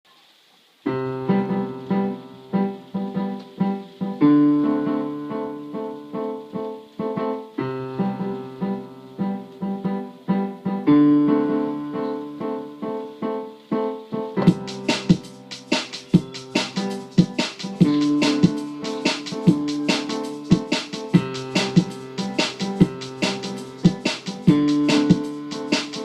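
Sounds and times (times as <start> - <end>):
electric piano chords: 0.9 - 26.0.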